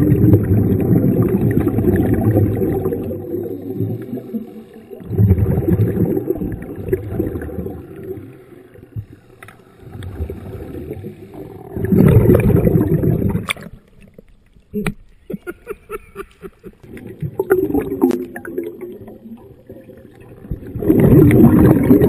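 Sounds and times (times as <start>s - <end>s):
scuba exhaust bubbles underwater: 0.0s - 15.4s, 16.2s - 22.0s.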